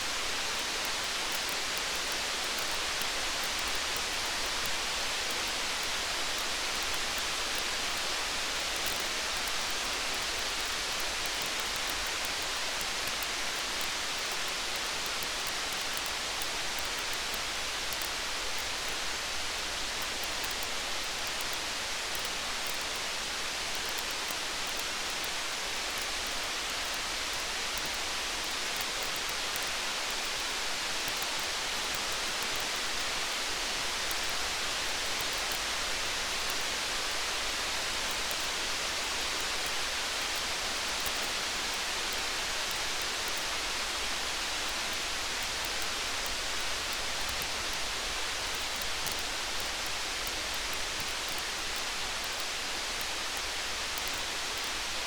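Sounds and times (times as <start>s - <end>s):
rain falling steadily: 0.0s - 55.0s
faint fine ticks: 0.4s - 55.0s.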